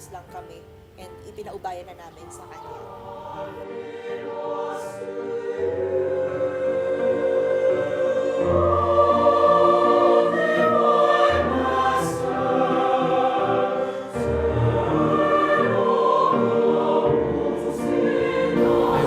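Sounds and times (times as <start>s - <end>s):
choir singing held chords: 2.1s - 19.0s.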